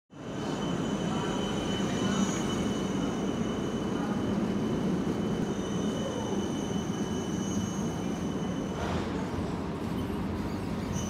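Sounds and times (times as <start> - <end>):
tram rolling rumble: 0.1 - 11.0.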